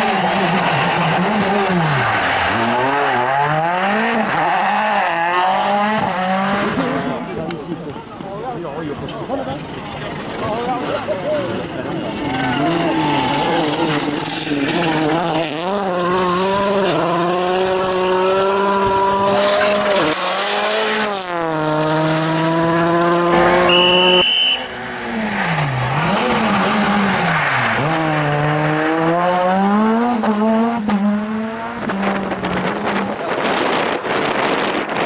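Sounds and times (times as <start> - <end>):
rally car engines at full throttle: 0.0 - 35.0.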